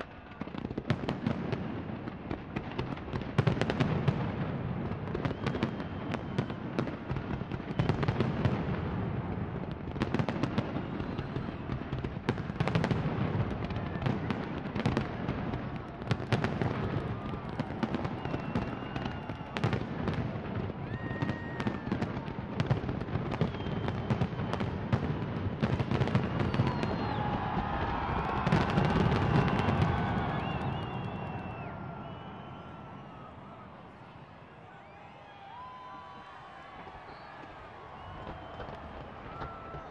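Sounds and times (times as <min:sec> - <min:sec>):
fireworks bangs and crackles: 0:00.0 - 0:39.9
fireworks whistling: 0:00.0 - 0:39.9.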